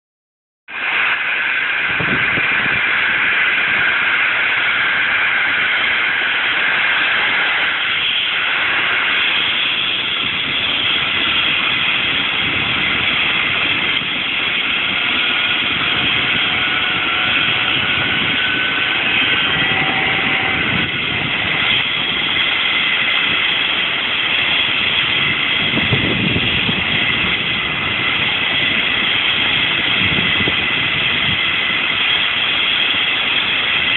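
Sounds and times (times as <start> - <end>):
helicopter rotor rush: 0.7 - 33.9
helicopter turbine whine: 0.7 - 33.9.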